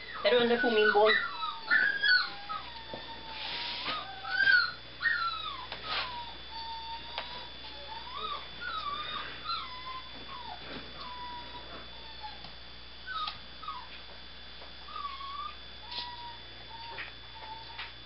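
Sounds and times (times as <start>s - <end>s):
puppy whimpering: 0.0s - 14.0s, 14.9s - 17.9s.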